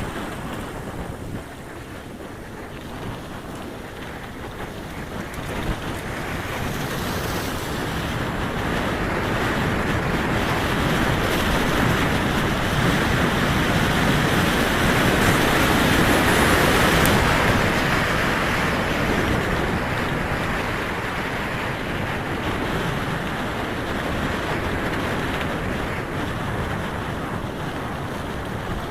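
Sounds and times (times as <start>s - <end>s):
wind rushing over microphone: 0.0s - 28.9s.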